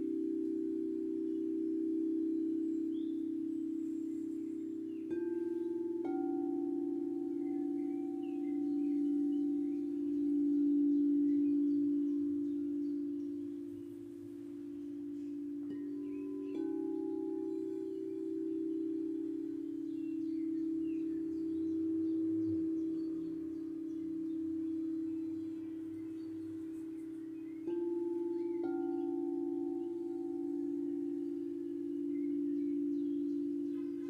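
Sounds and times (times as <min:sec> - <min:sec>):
faint bird chirps: 0:00.0 - 0:34.0
singing bowls ringing: 0:00.0 - 0:34.0.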